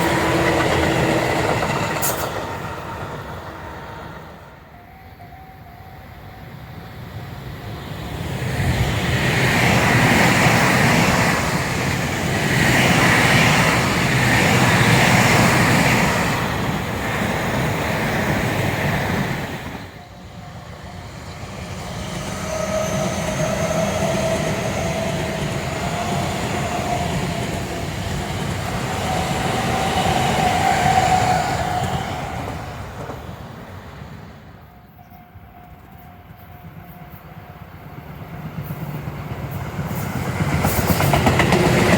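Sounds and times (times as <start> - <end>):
electric train passing: 0.0 - 41.9
faint rising train whine: 0.0 - 41.9.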